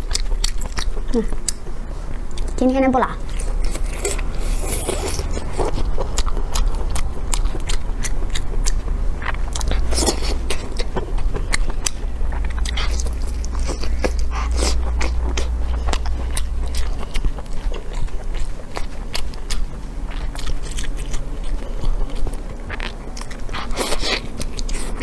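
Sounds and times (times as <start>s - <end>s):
person chewing: 0.0s - 2.6s, 3.2s - 25.0s
low steady hum: 0.0s - 25.0s.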